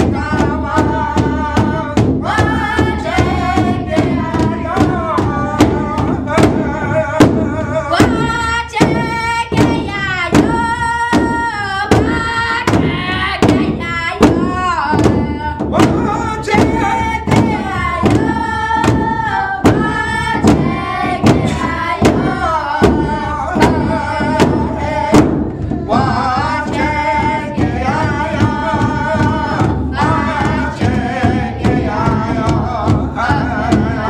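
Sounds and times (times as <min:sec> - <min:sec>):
children singing: 0:00.0 - 0:34.0
large drum beaten with sticks: 0:00.0 - 0:34.0.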